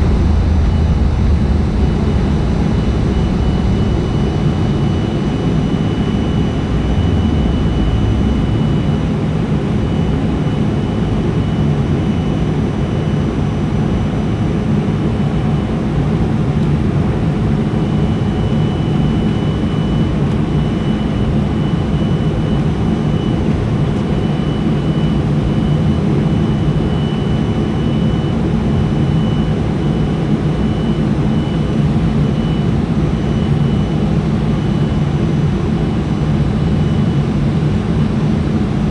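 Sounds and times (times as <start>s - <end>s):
high engine whine: 0.0s - 38.9s
jet engine cabin rumble: 0.0s - 38.9s.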